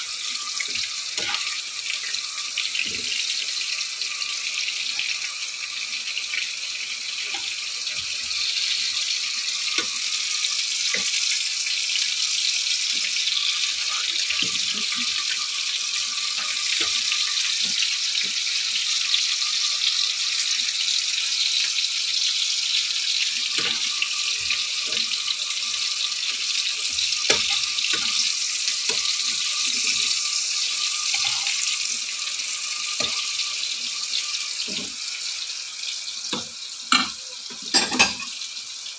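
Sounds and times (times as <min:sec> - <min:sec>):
food frying in hot oil: 0:00.0 - 0:38.9.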